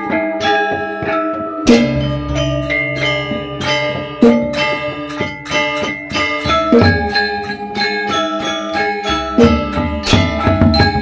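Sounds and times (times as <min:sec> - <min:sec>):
metallophones ringing: 0:00.0 - 0:11.0.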